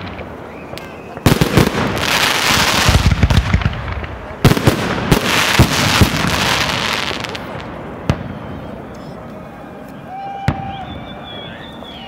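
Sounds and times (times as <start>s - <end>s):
fireworks bangs: 0.0s - 9.5s, 10.4s - 11.9s
fireworks crackling hiss: 0.0s - 10.0s.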